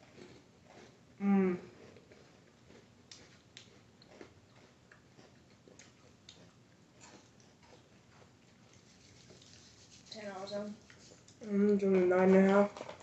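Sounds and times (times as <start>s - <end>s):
person chewing crisp snack: 0.0s - 11.5s.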